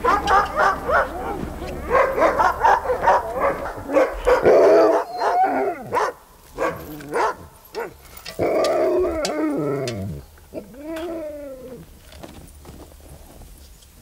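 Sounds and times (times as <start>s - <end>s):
dogs barking and yipping: 0.0s - 11.4s
dogs howling: 0.0s - 12.0s.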